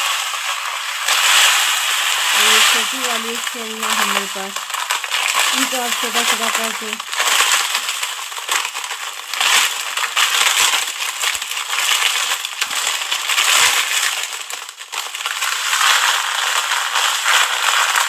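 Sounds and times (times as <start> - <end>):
dry noodles pouring into a wok: 0.0 - 18.0.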